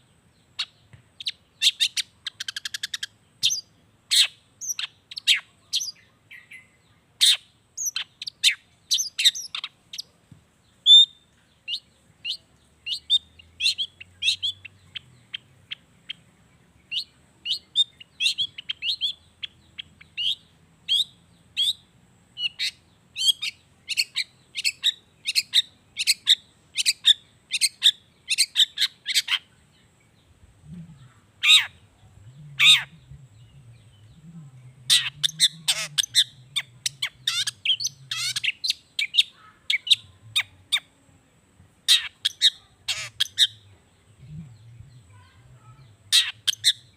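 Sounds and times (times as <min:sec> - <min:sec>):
bird chattering song: 0:00.0 - 0:41.0, 0:41.7 - 0:46.9
loud bird calls: 0:00.0 - 0:41.0, 0:41.8 - 0:46.9.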